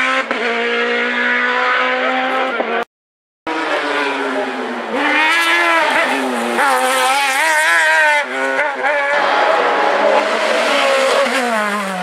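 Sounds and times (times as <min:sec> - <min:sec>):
race car engine at high revs: 0:00.0 - 0:02.9, 0:03.5 - 0:12.0.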